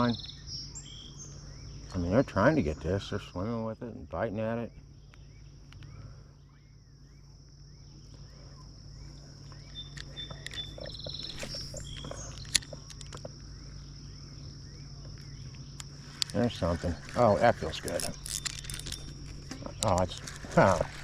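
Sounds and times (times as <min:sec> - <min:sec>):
small repeated chirps: 0:00.0 - 0:02.0, 0:04.7 - 0:21.0
bird calls: 0:00.0 - 0:21.0
insects trilling: 0:00.0 - 0:21.0
low steady hum: 0:00.0 - 0:21.0.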